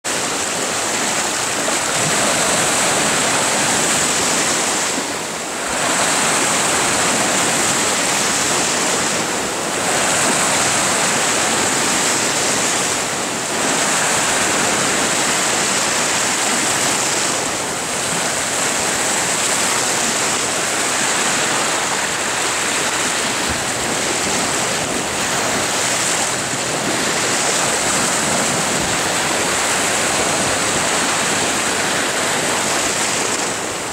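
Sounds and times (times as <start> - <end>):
surf breaking on rocks: 0.0 - 33.9.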